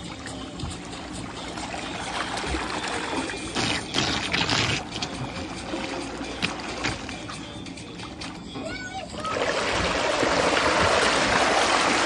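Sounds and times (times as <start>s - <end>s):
pool water splashing and churning: 0.0s - 12.0s.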